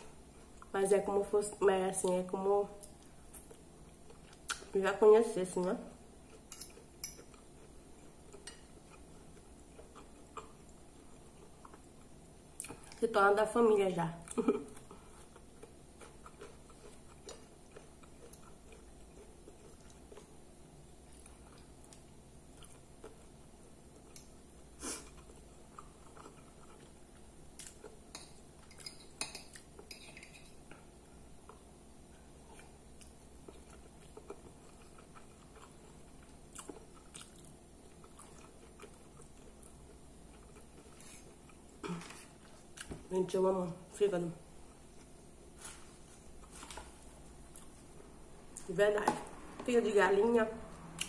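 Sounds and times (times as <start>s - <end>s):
person chewing: 2.8s - 4.8s, 6.2s - 13.0s, 14.2s - 43.1s, 44.6s - 48.7s.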